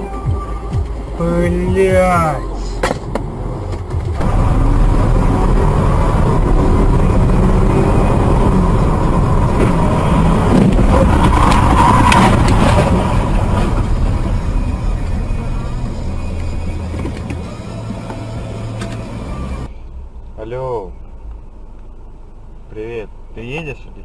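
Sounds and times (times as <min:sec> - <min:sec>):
car engine: 0:00.0 - 0:24.0
road noise: 0:00.0 - 0:24.0.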